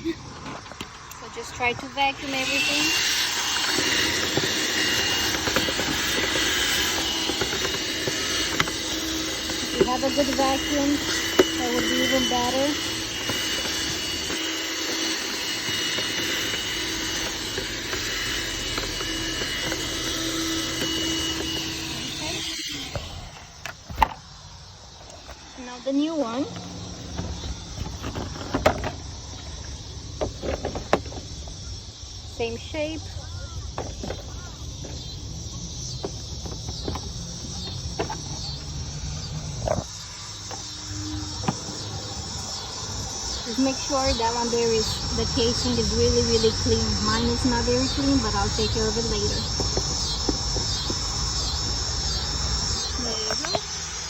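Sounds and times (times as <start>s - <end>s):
high chirring: 0.0s - 54.0s
vacuum cleaner whining: 0.0s - 54.0s.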